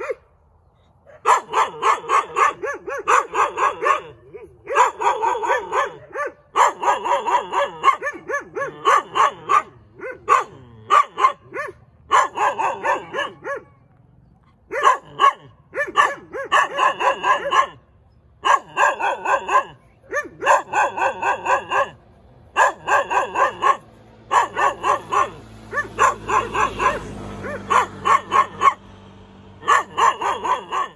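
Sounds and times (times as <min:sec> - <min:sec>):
dog barking: 0:00.0 - 0:00.3, 0:01.0 - 0:28.9, 0:29.6 - 0:30.9.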